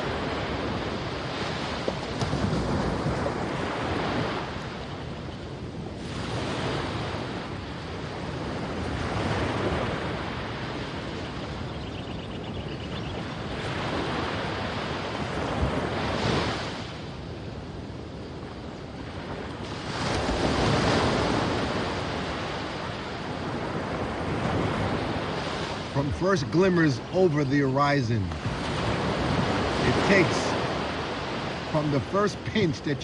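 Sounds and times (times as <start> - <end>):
ocean surf breaking on beach: 0.0 - 33.0.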